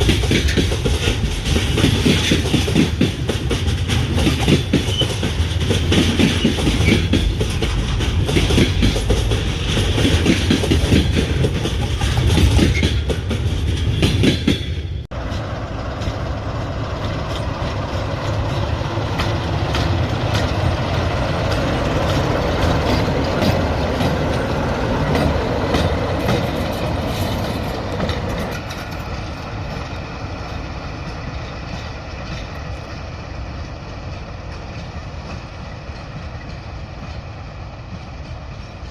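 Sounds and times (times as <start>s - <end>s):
train running by: 0.0s - 38.9s
train wheels clattering over rail joints: 0.0s - 38.9s.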